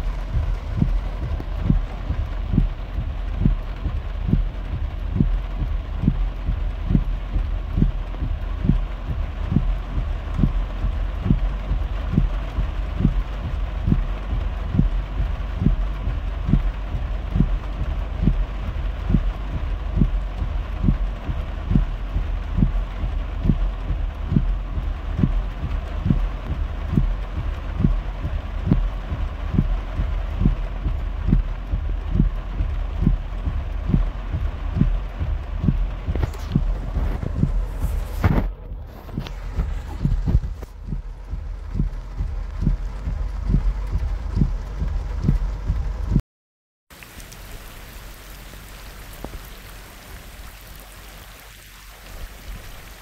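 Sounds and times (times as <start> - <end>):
heavy rain and water wash: 0.0 - 46.2, 46.9 - 53.0
low car rumble: 0.0 - 46.2
regular low thumps: 0.0 - 46.2.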